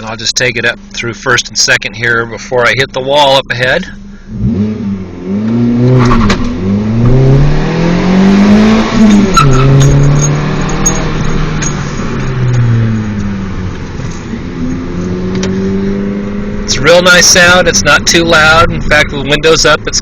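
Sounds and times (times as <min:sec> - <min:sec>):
car exhaust accelerating hard: 0:02.8 - 0:20.0.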